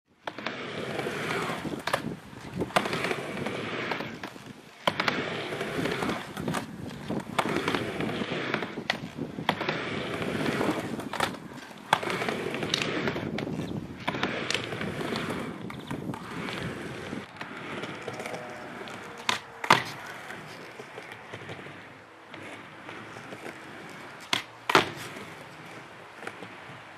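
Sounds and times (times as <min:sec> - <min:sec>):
skateboard wheel rumble: 0:00.1 - 0:26.9
skateboard clacking on ramp: 0:00.2 - 0:26.8.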